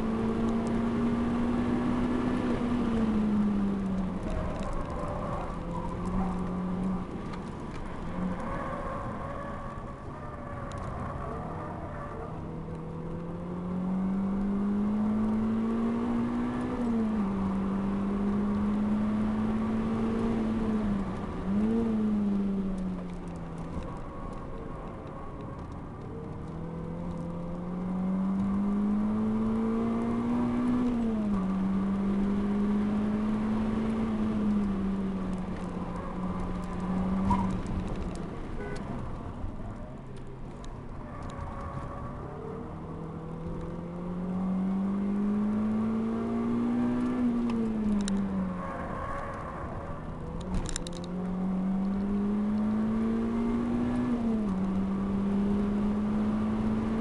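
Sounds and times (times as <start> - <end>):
car engine revving and shifting: 0.0 - 57.0.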